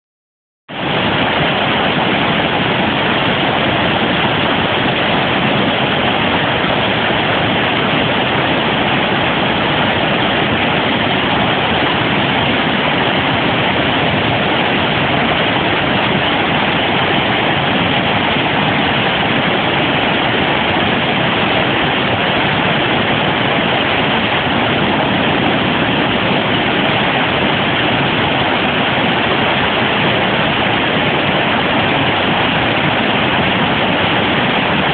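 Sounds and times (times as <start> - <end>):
waterfall rushing: 0.7 - 34.9.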